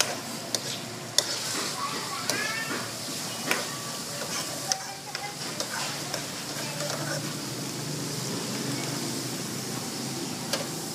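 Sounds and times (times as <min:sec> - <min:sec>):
sauce bubbling and sizzling in pan: 0:00.0 - 0:10.9.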